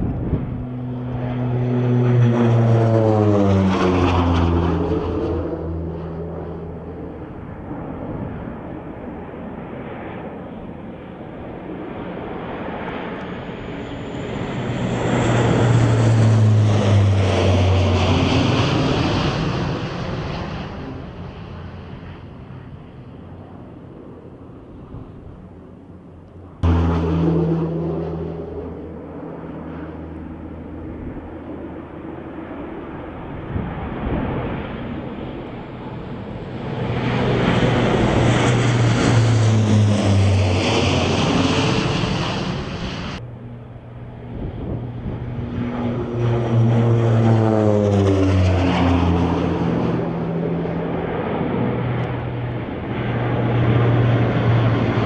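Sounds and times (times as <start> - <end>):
propeller plane flying overhead: 0.0 - 55.0.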